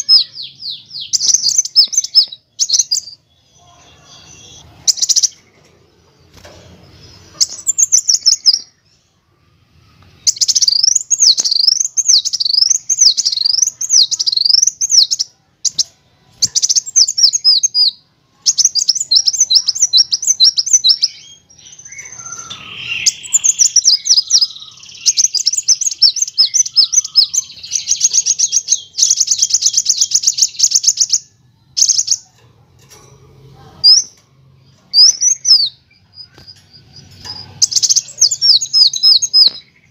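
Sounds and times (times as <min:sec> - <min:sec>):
bird chattering song: 0:00.0 - 0:05.7, 0:06.9 - 0:09.1, 0:10.2 - 0:33.0, 0:33.7 - 0:39.9.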